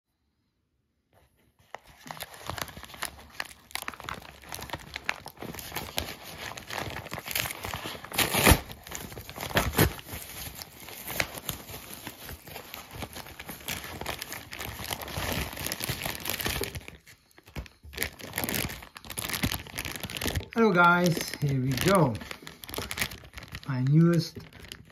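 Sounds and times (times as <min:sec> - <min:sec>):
paper envelope crinkling and tearing: 0:01.6 - 0:24.9.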